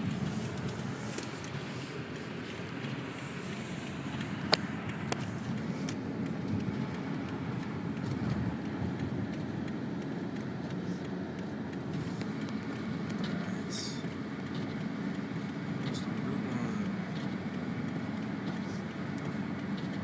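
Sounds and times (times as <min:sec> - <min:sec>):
car engine and tyres rumbling: 0:00.0 - 0:20.0
faint ticks: 0:03.2 - 0:20.0.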